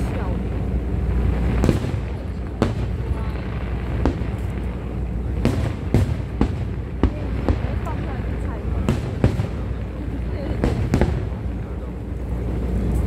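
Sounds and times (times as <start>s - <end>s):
fireworks bangs: 0.0s - 13.0s
low rumble: 0.0s - 13.0s.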